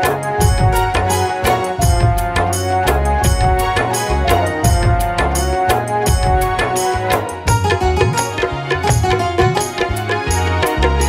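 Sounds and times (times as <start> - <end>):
drums playing quick beat: 0.0 - 11.0
held melody line: 0.0 - 11.0.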